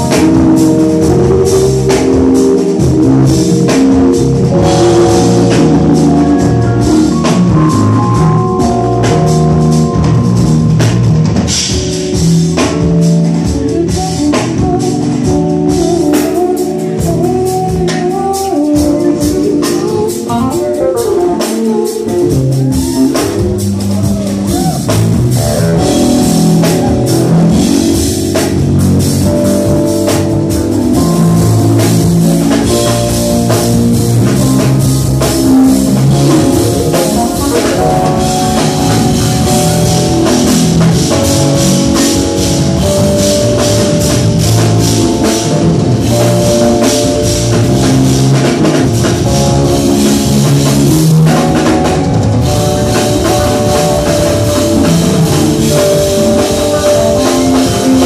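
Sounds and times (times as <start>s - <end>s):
drum kit: 0.0s - 58.0s
electric bass line: 0.0s - 58.0s
held keyboard notes: 0.0s - 58.0s.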